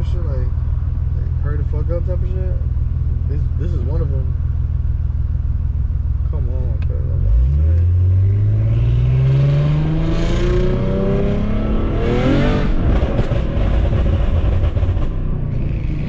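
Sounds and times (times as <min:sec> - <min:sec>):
car engine revving: 0:00.0 - 0:16.0
road noise: 0:00.0 - 0:16.0.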